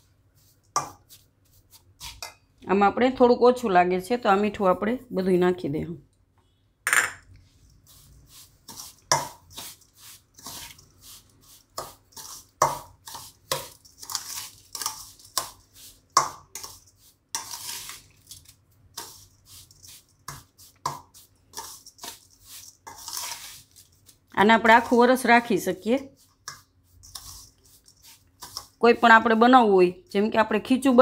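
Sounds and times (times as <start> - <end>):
spoon scraping in steel bowl: 0.4 - 2.5, 6.9 - 29.6.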